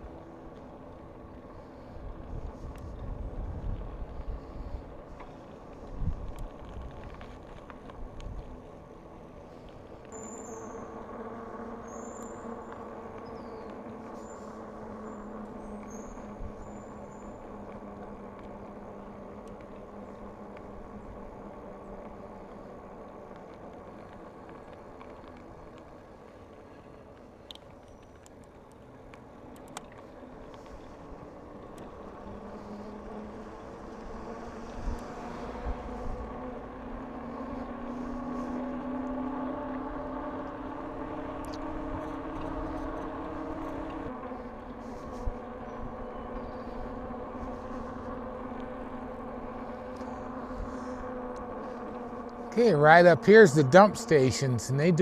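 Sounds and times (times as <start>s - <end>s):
faint bike clicks: 0.0s - 52.5s
bike humming in motion: 0.0s - 55.0s.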